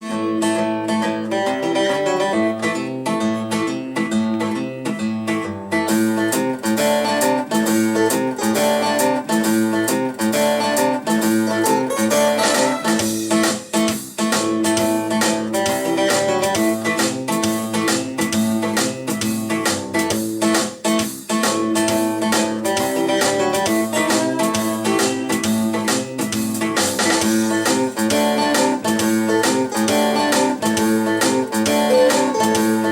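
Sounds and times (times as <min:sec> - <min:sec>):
guitar-led blues music: 0:00.0 - 0:32.9.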